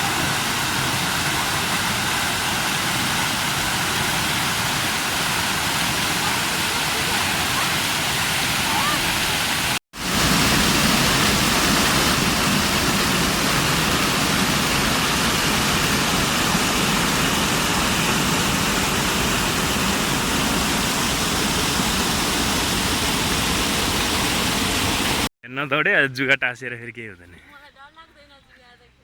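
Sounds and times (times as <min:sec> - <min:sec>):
waterfall rushing: 0:00.0 - 0:25.3.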